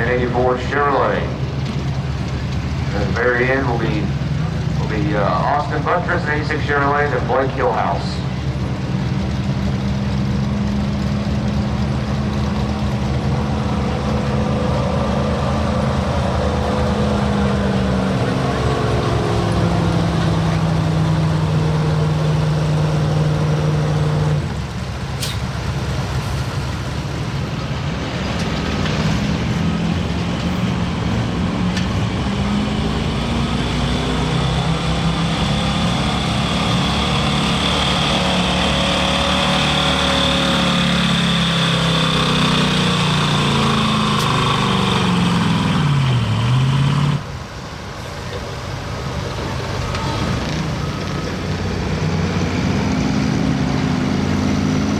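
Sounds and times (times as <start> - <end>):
truck engines running hard: 0.0 - 54.9.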